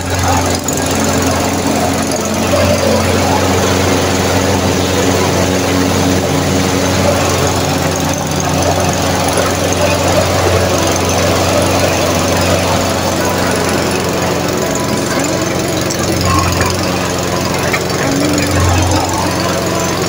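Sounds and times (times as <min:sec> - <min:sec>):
lawnmower engine running: 0:00.0 - 0:20.0.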